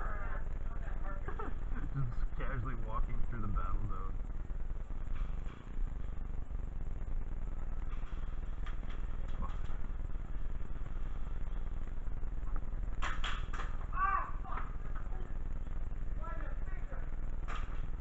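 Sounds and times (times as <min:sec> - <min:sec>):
low rumble of walking: 0:00.0 - 0:18.0.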